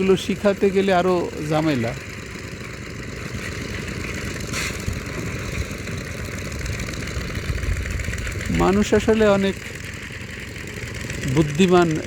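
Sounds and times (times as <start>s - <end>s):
low engine rumble at idle: 0.0s - 12.0s.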